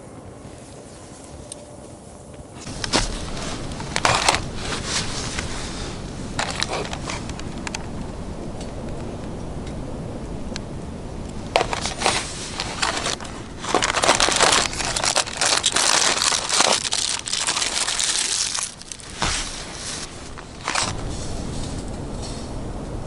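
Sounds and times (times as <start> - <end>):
crinkling and rustling: 0.6 - 9.1, 11.2 - 22.5.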